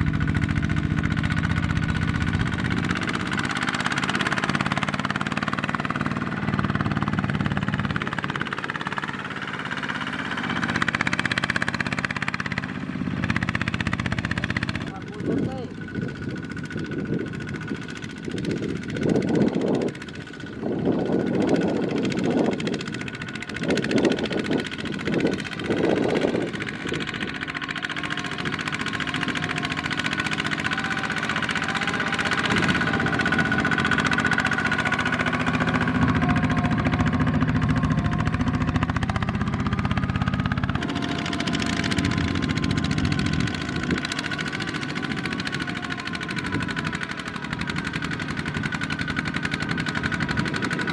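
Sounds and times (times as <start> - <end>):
diesel tractor engines running: 0.0 - 50.9.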